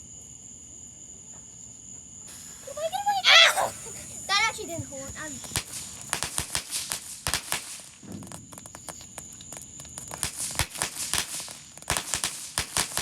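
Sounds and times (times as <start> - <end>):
firework crackling pops: 2.3 - 13.0.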